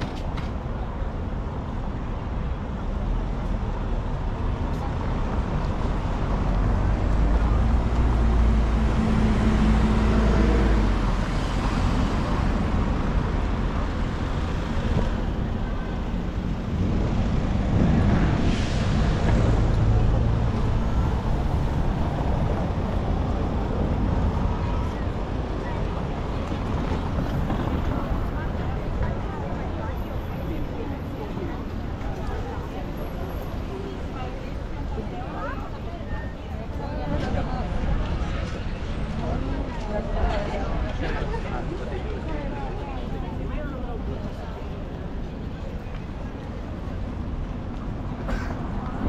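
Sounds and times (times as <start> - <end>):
cars going by: 3.0 - 49.0.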